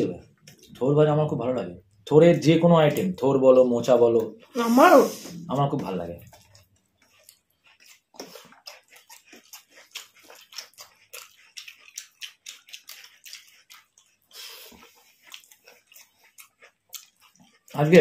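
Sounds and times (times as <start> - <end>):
people chewing food: 0.0 - 18.0.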